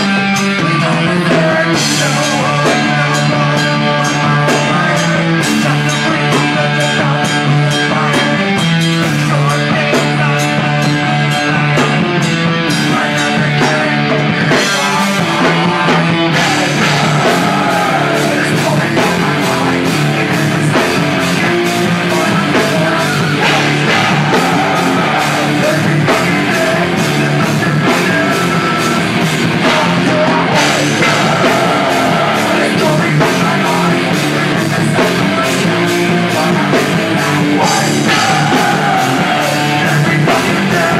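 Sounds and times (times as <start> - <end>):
bass guitar: 0.0 - 40.9
distorted electric guitars: 0.0 - 40.9
fast drum beat: 0.0 - 40.9
rock vocals: 0.0 - 40.9.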